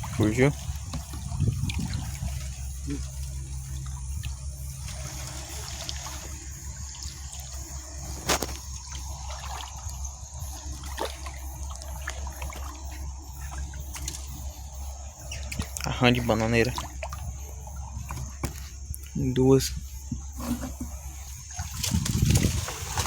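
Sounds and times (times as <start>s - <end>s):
water sloshing while wading: 0.0s - 23.0s.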